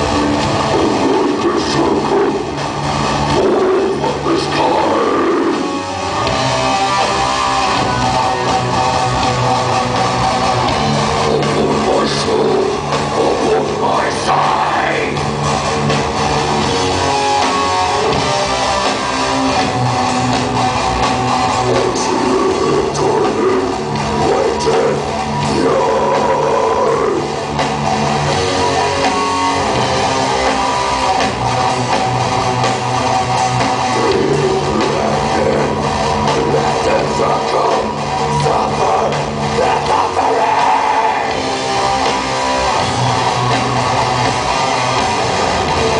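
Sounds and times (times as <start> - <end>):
drum kit: 0.0 - 45.9
electric guitars: 0.0 - 45.9.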